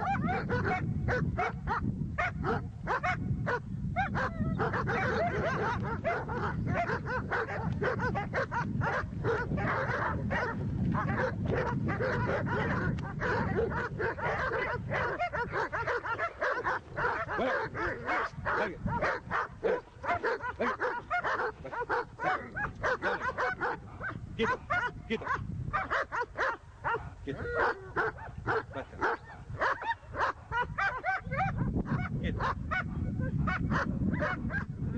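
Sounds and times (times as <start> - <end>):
dog barking rapidly: 0.0 - 34.8.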